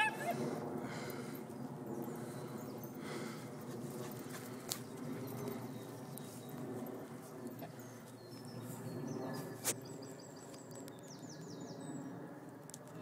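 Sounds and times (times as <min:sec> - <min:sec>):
songbirds chirping: 0:00.0 - 0:12.8.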